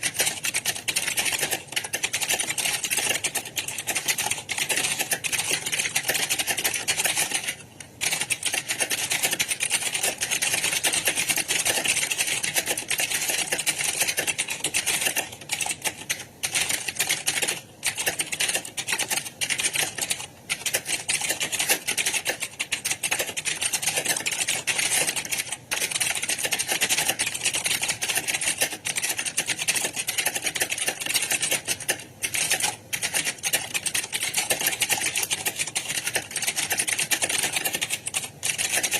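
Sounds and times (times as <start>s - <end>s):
computer keyboard typing: 0.0s - 38.9s.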